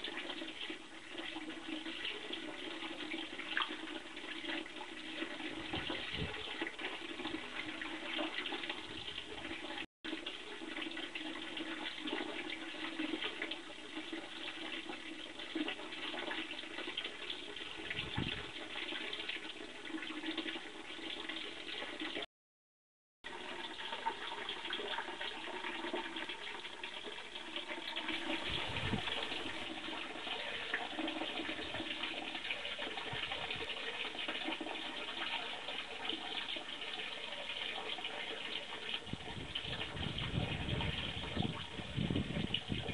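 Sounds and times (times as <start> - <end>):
running and splashing water: 0.0 - 22.3, 23.2 - 42.9.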